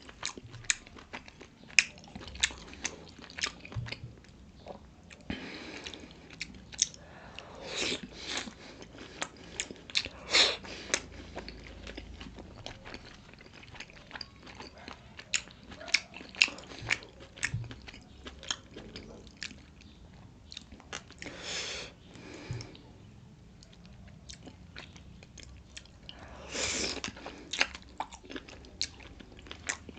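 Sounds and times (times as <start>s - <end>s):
person chewing with wet mouth clicks: 0.0s - 21.3s, 23.6s - 26.2s, 26.9s - 29.9s.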